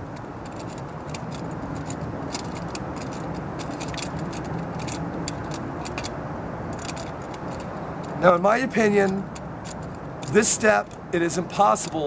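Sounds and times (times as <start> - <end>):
vehicle humming: 0.0 - 12.0
wrench clicking and scraping: 0.0 - 12.0.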